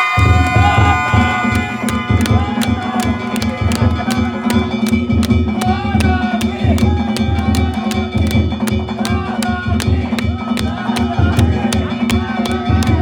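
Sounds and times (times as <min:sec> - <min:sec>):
hand-held gongs struck: 0:00.0 - 0:13.0
taiko drum beating: 0:00.0 - 0:13.0.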